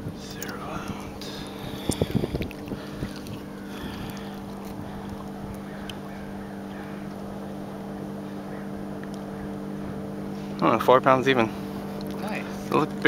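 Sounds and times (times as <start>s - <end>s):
boat mechanical hum: 0.0s - 13.0s.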